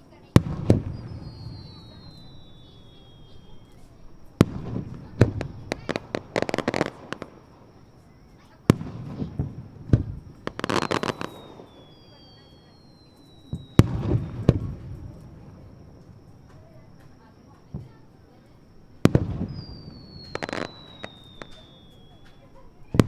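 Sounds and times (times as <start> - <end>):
fireworks bangs with rumble: 0.0 - 18.2, 19.0 - 23.0
fireworks crackling: 0.0 - 23.0.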